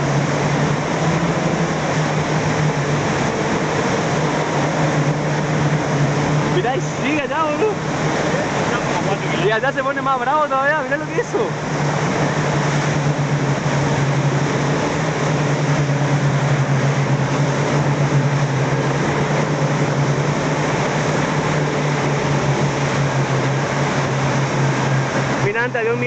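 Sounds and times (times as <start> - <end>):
outboard motor humming: 0.0 - 26.0
steady rushing noise: 0.0 - 26.0.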